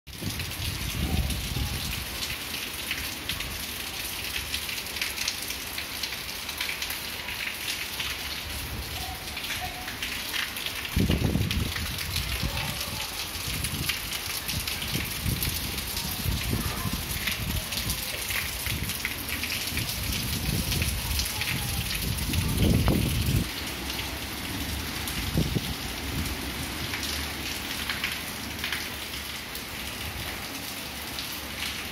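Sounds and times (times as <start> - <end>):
heavy rain falling: 0.1 - 31.9.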